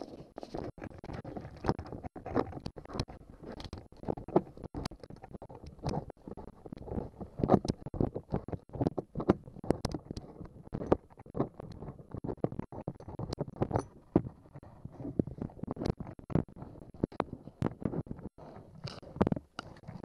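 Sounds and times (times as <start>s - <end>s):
clicks scrapes and knocks on pipe: 0.0s - 20.0s.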